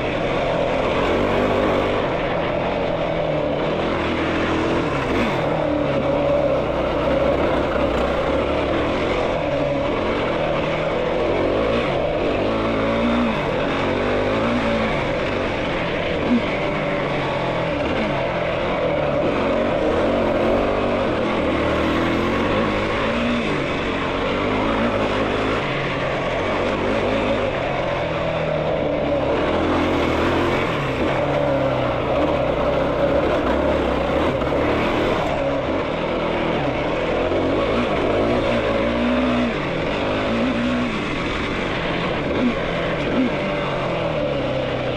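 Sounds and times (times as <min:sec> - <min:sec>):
quad engine revving: 0:00.0 - 0:44.9.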